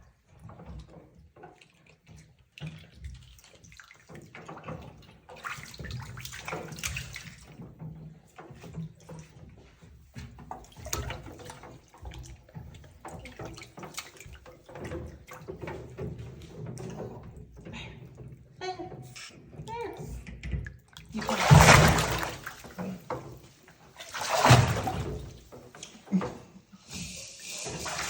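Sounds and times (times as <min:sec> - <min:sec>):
bathwater sloshing and splashing: 0:00.0 - 0:28.0.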